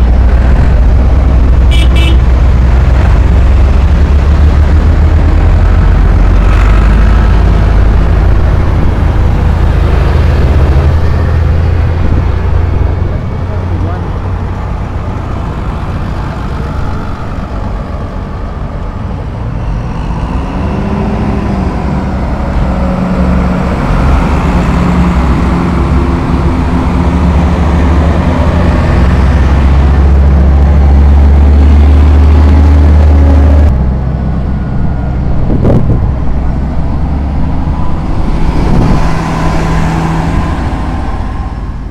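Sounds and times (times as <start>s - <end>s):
tractor engines rumbling past: 0.0s - 41.9s.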